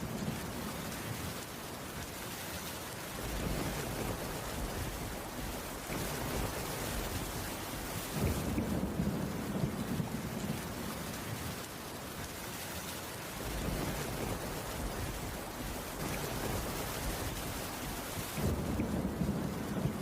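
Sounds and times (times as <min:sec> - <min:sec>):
heavy rain on wooden roof: 0:00.0 - 0:20.0.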